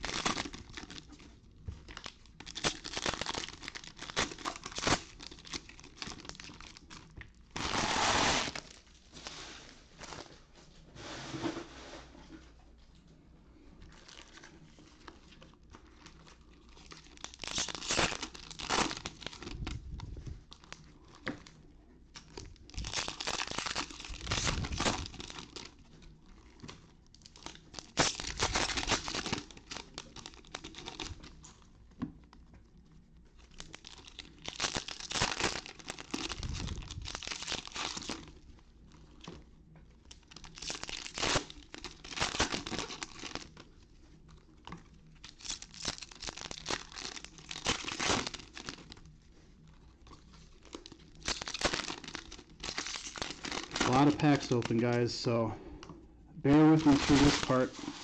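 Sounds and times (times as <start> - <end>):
wrappers being torn and crinkled: 0.0 - 9.1, 13.9 - 31.7, 33.4 - 39.4, 40.0 - 55.1, 56.5 - 58.0.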